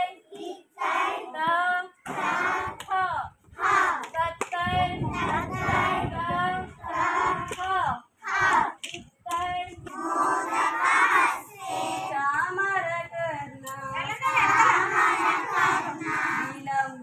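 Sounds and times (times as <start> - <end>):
girls singing together: 0.0 - 17.0.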